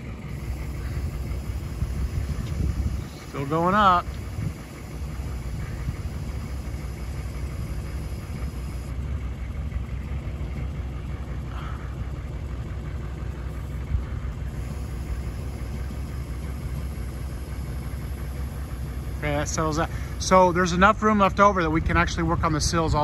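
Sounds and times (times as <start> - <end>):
truck engine low rumble: 0.0 - 23.0.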